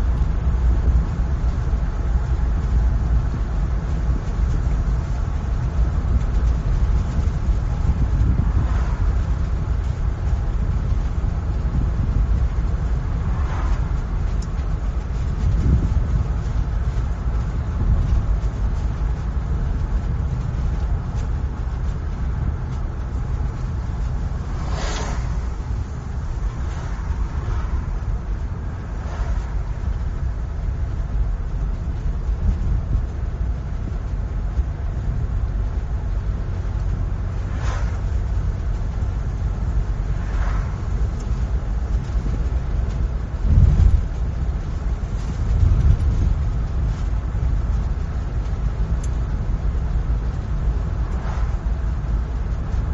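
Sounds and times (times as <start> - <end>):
car driving on road: 0.0 - 52.9
engine and tyre rumble: 0.0 - 52.9.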